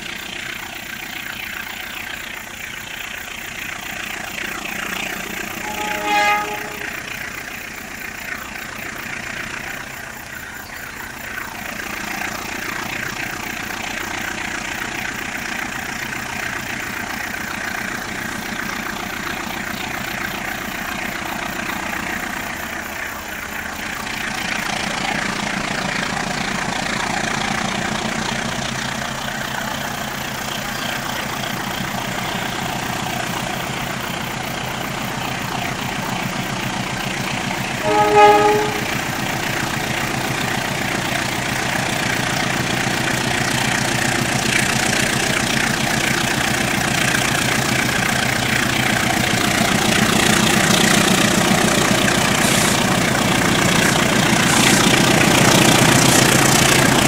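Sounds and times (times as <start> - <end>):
diesel locomotive engine working: 0.0 - 57.0.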